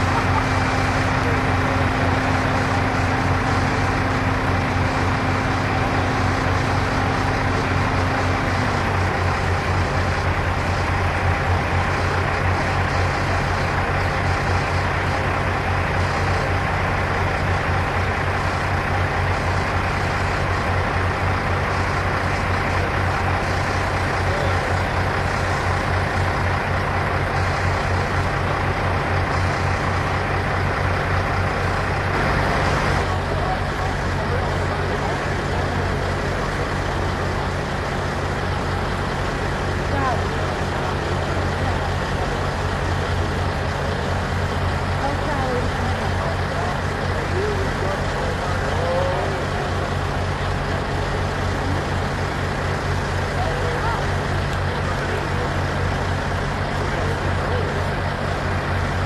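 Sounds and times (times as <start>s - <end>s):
diesel engine rumbling: 0.0s - 59.0s
steady higher hum: 0.0s - 59.0s.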